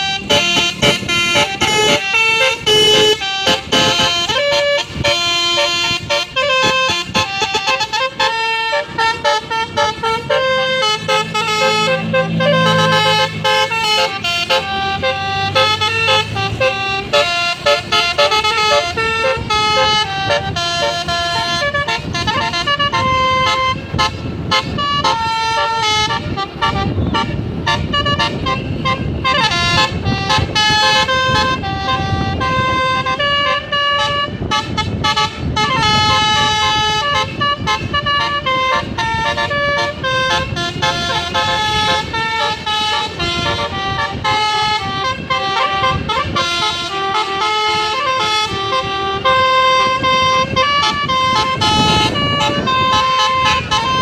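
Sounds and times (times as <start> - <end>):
low bus engine rumble: 0.0 - 54.0
multi-tone musical bus horn: 0.0 - 54.0.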